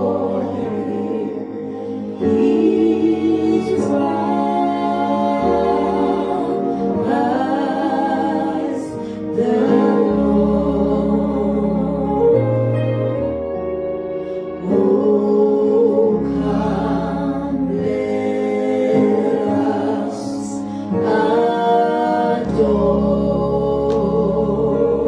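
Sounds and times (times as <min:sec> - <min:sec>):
people singing: 0:00.0 - 0:13.2, 0:14.6 - 0:25.0
bass line: 0:00.0 - 0:25.0
keyboard chords: 0:00.0 - 0:25.0.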